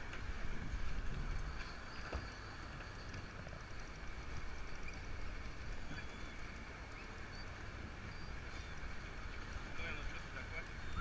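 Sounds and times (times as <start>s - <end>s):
water washing against hull: 0.0s - 11.0s
wind rumble on microphone: 0.0s - 11.0s.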